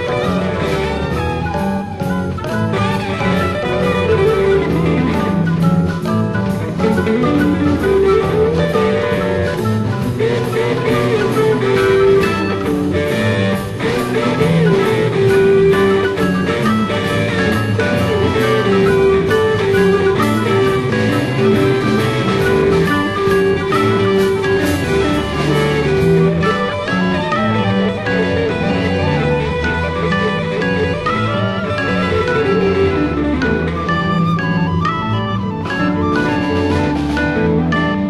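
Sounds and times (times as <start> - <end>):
bass and keyboard lines: 0.0 - 38.0
drum kit beat: 0.0 - 38.0
sustained midrange melody: 0.0 - 38.0.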